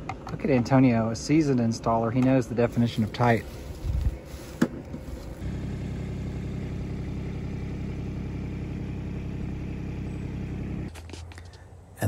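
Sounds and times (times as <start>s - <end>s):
engine idling: 0.7s - 12.0s.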